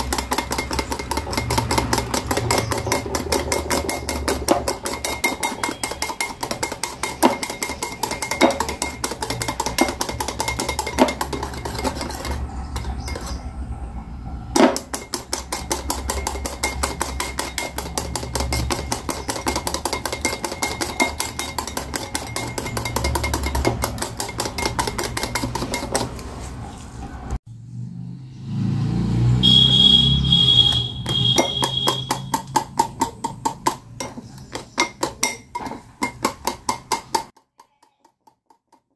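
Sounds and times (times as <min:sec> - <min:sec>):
whisk clinking against glass bowl: 0:00.0 - 0:13.5, 0:14.6 - 0:26.4, 0:30.6 - 0:38.1.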